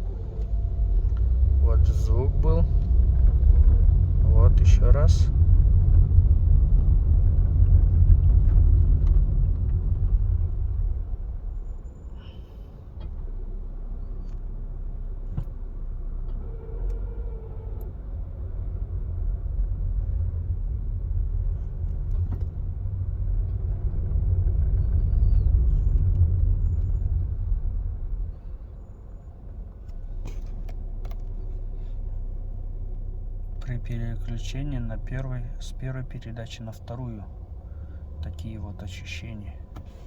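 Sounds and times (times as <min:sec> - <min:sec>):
low car engine rumble inside cabin: 0:00.0 - 0:40.0.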